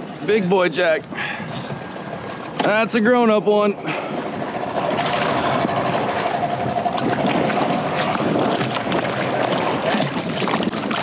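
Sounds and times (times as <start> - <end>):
wind and water noise: 0.0 - 11.0.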